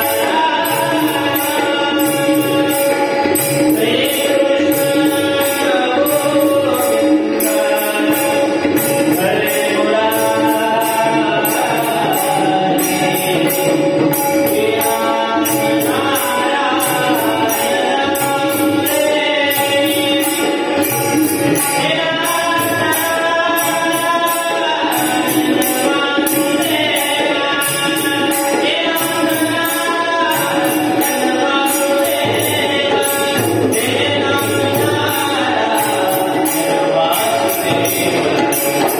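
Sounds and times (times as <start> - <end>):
percussion beat: 0.0 - 38.9
person singing: 0.0 - 38.9.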